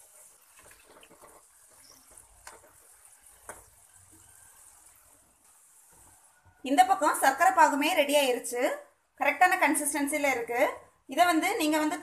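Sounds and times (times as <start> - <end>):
faint sizzle of deep-frying: 0.0 - 12.0.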